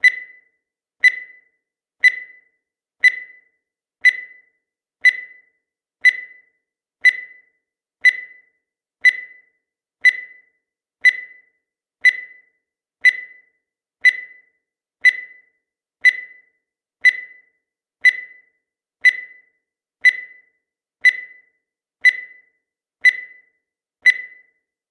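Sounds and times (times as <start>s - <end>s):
short electronic beeps: 0.0s - 24.6s.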